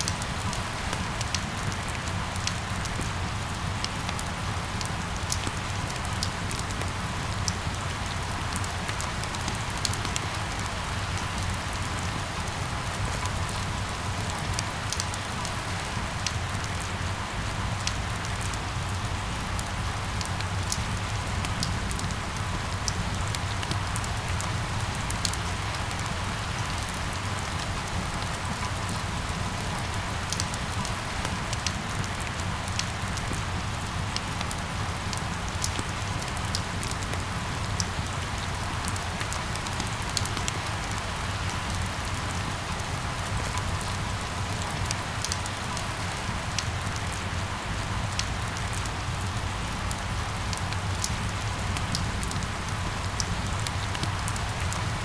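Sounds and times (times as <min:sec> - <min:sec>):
sharp ticks of raindrops: 0:00.0 - 0:55.0
steady rain falling: 0:00.0 - 0:55.0.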